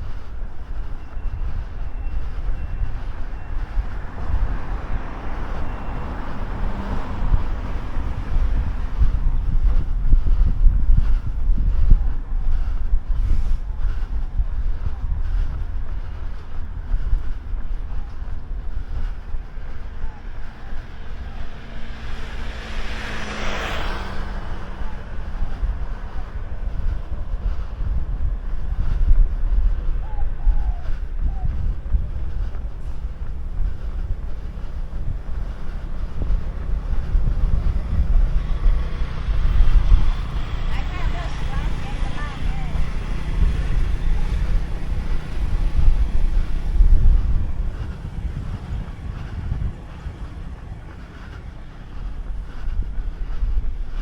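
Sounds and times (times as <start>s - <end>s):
traffic noise: 0.0s - 54.0s
vehicle passing: 0.0s - 54.0s
wind rumbling on microphone: 0.0s - 54.0s.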